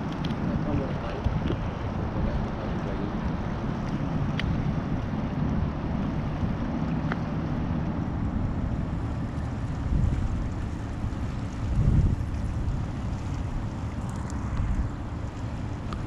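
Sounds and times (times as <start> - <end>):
sea washing against rocks: 0.0 - 16.0
wind rumbling on microphone: 0.0 - 16.0.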